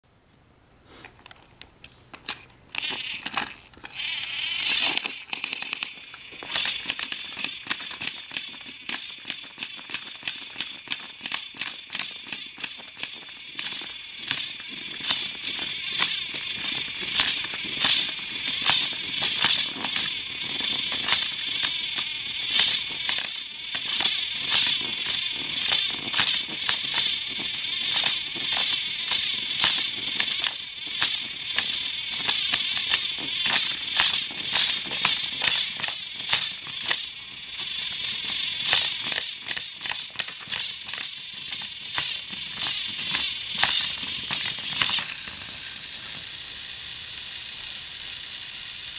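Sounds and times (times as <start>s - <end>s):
rattle of clicks: 2.1s - 48.4s
toy train motor whine: 2.2s - 48.9s.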